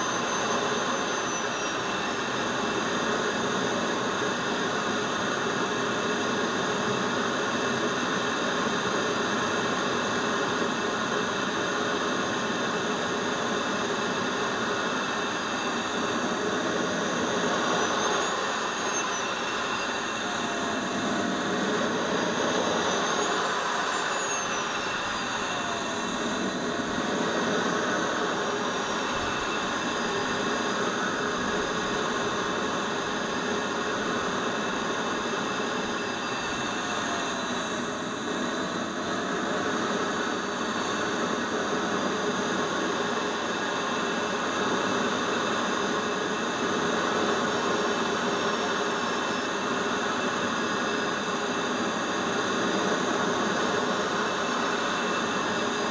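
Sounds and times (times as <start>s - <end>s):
model jet engine whine: 0.0s - 55.9s.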